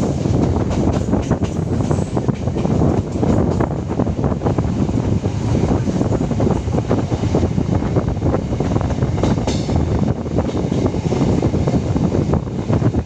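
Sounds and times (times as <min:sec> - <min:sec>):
electric train running at speed: 0:00.0 - 0:13.0.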